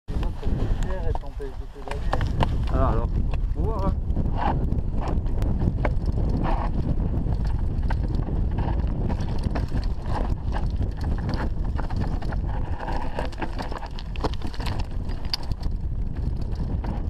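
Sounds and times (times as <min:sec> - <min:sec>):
wind buffeting microphone: 0:00.1 - 0:17.0
bike rattling and knocking: 0:00.2 - 0:17.0
tyres crunching over stones: 0:00.2 - 0:17.0.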